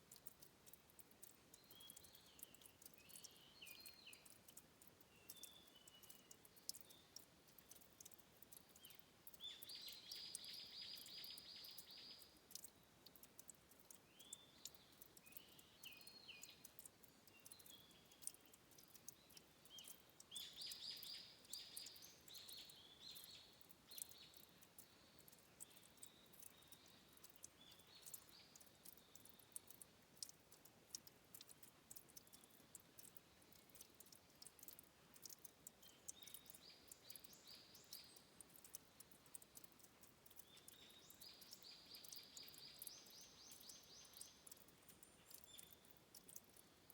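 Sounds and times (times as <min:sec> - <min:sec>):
water dripping: 0:00.0 - 0:46.9.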